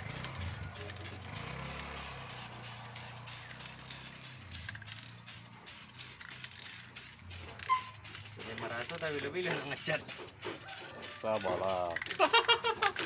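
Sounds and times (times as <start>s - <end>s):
spray can hissing: 0.0s - 13.0s.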